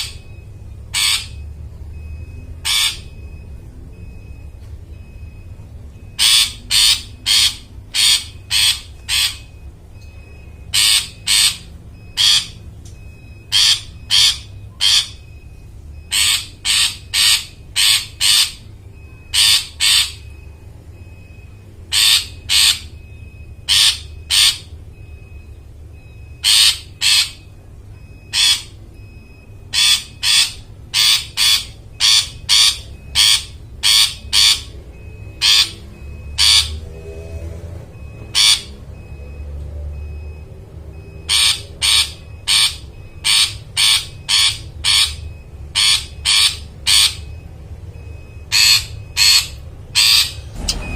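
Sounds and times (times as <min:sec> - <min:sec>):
bird harsh rasping calls: 0:00.0 - 0:03.4, 0:06.0 - 0:09.7, 0:10.6 - 0:24.8, 0:26.0 - 0:37.2, 0:38.0 - 0:39.1, 0:41.0 - 0:50.9.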